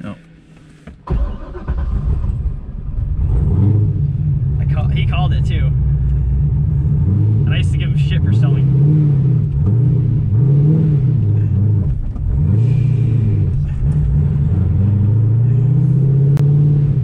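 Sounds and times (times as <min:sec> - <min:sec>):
car engine revving at low revs: 0:01.9 - 0:17.0.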